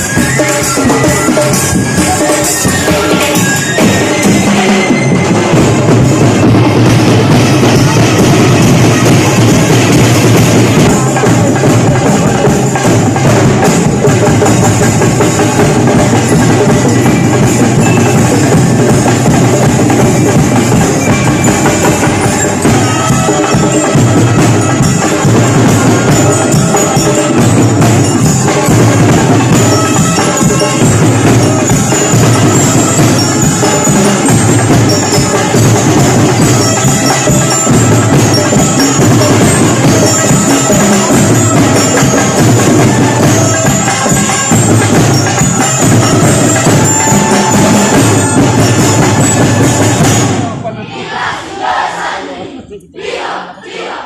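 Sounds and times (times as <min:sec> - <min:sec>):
music with drums and percussion: 0:00.0 - 0:51.4.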